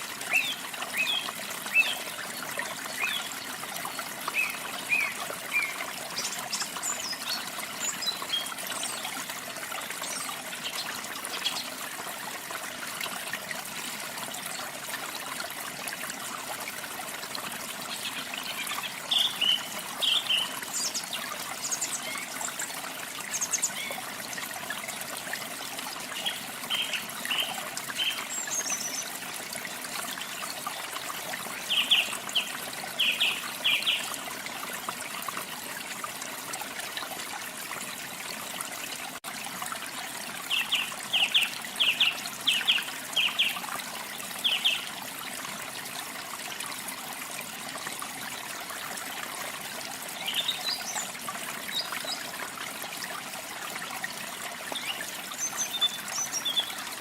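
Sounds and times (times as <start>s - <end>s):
falling and trickling water: 0.0s - 57.0s.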